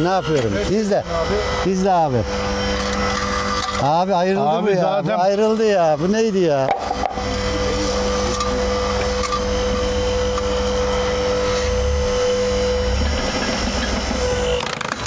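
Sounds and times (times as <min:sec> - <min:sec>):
log splitter motor whining: 0:00.0 - 0:15.0.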